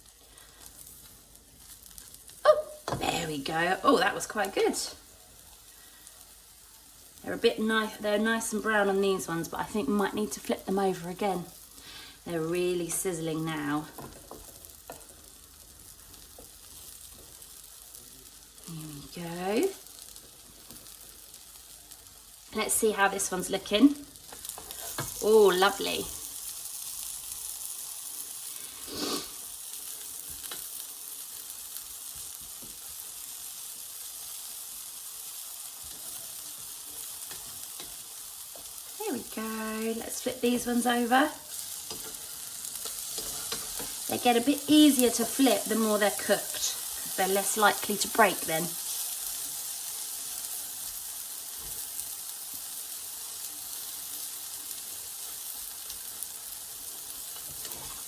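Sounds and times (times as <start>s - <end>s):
pancakes sizzling in a frying pan: 0.0s - 58.0s.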